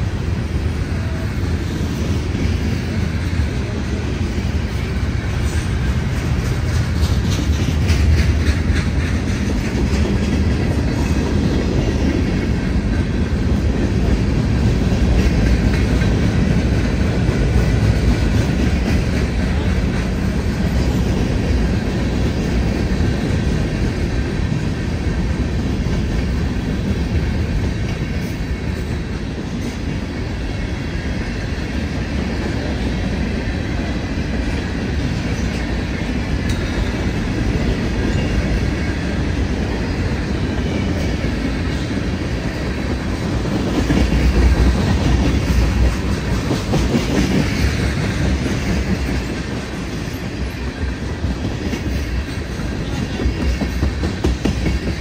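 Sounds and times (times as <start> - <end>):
train wagons rumbling on rails: 0.0 - 55.0
wheels clicking over rail joints: 1.8 - 30.0, 34.3 - 55.0.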